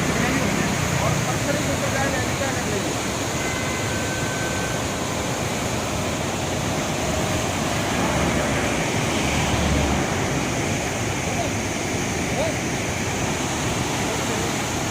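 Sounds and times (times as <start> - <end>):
river rushing over rocks: 0.0 - 14.9.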